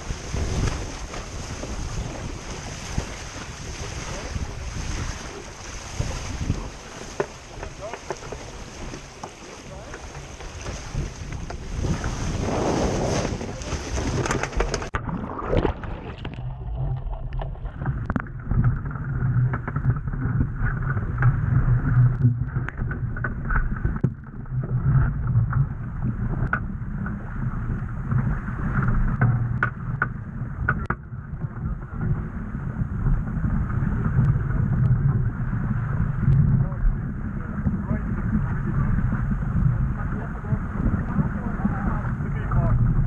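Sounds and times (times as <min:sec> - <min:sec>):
water rushing along hull: 0:00.0 - 0:43.0
wind buffeting microphone: 0:00.0 - 0:43.0.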